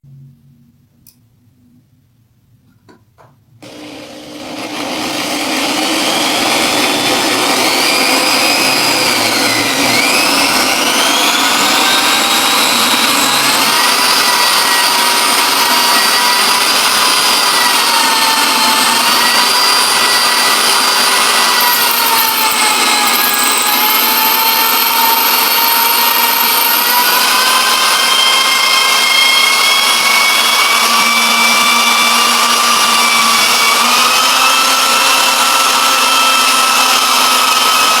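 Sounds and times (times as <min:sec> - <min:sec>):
power tool motor whining: 0:03.6 - 0:38.0.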